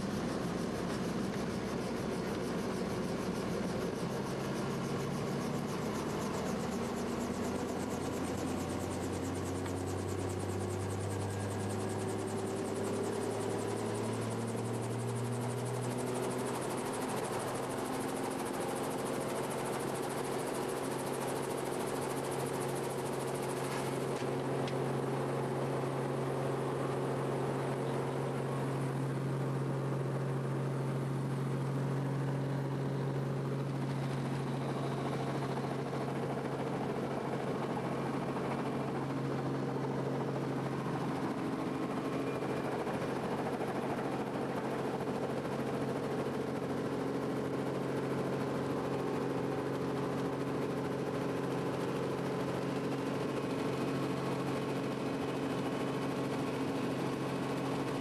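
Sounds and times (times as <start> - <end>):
helicopter cabin drone: 0.0 - 58.0.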